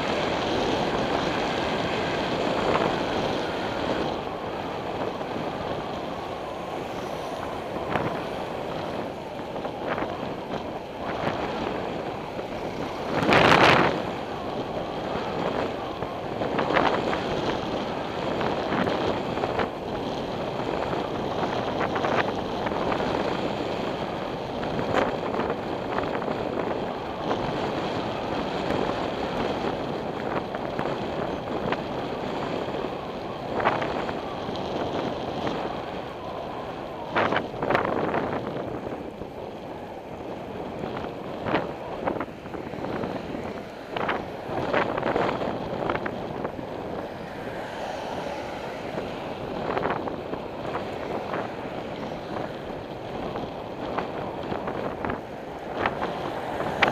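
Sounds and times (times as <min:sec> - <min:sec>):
tyre and road noise: 0:00.0 - 0:56.9
wind buffeting microphone: 0:00.0 - 0:56.9.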